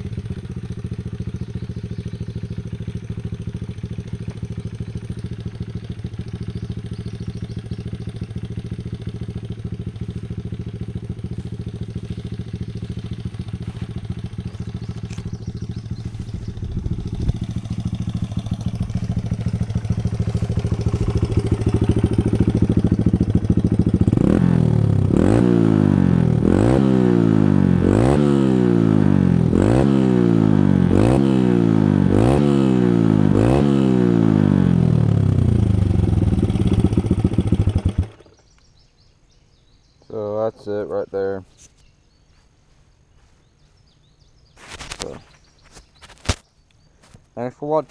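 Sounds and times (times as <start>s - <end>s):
dirt bike engine revving: 0.0s - 38.4s.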